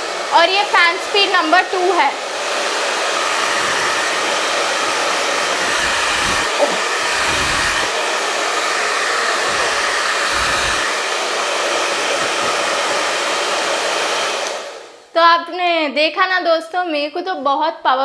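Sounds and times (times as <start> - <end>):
hair dryer blowing air: 0.0 - 15.1.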